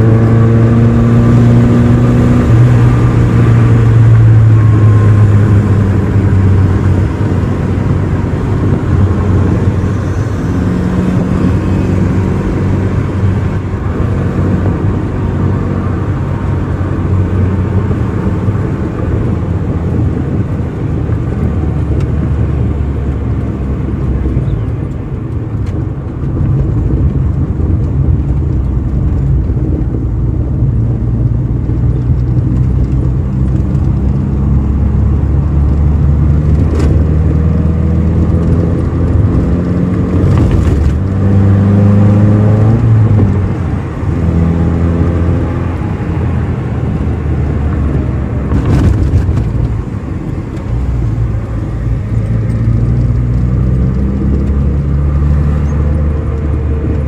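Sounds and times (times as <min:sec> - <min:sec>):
car engine while driving: 0:00.0 - 0:57.0
road noise: 0:00.0 - 0:57.0.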